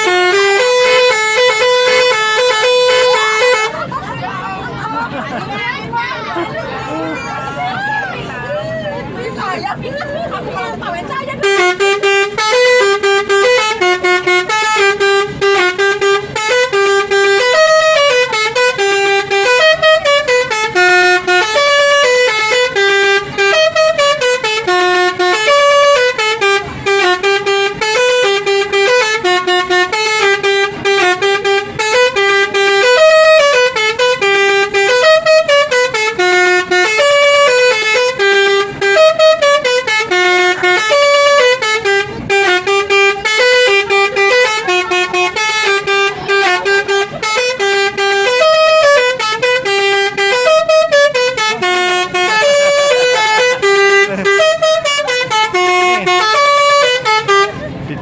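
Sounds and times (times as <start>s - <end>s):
melodic bus horn: 0.0s - 58.0s.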